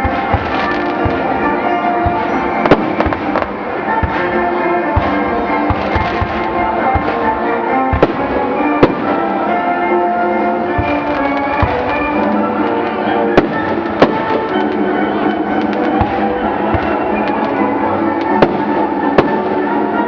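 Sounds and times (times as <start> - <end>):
fireworks booming: 0.0 - 9.6, 10.5 - 20.0
fireworks crackling: 0.0 - 20.0
steady music: 0.0 - 20.0.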